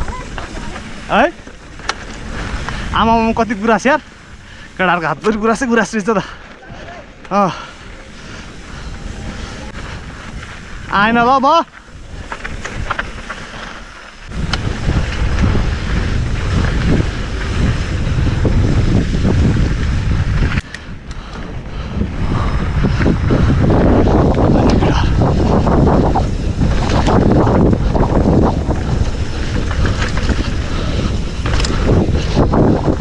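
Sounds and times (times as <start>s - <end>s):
bike tyres rumbling and rattling: 0.0s - 33.0s
wind rushing over microphone: 0.0s - 33.0s.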